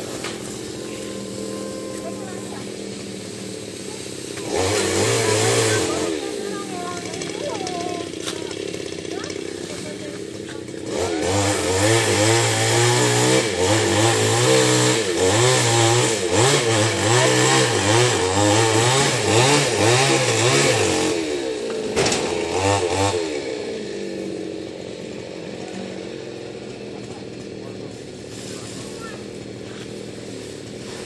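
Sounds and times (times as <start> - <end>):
chainsaw revving and idling: 0.0 - 31.0.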